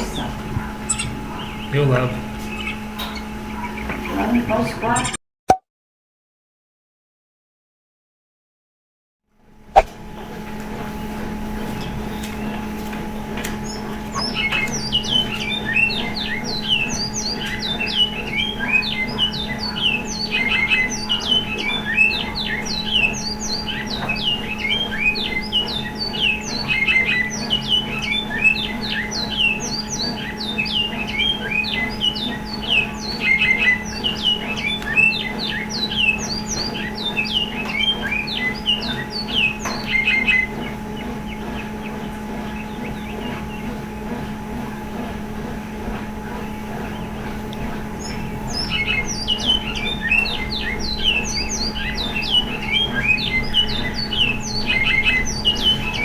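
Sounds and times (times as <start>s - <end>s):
bird calling in sharp notes: 0.0s - 4.2s, 13.6s - 56.0s
steady low hum: 0.0s - 5.0s, 9.5s - 56.0s.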